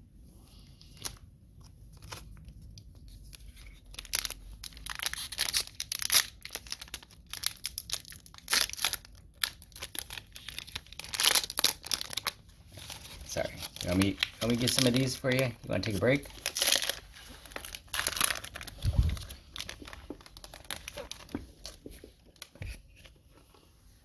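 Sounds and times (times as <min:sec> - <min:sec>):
card pack wrapper tearing and crinkling: 0:03.3 - 0:23.1.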